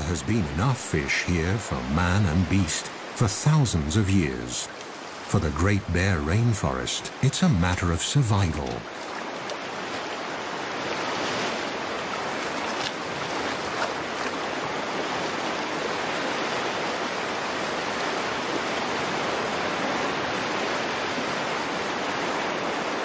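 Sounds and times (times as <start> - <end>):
rushing stream water: 0.0 - 23.0.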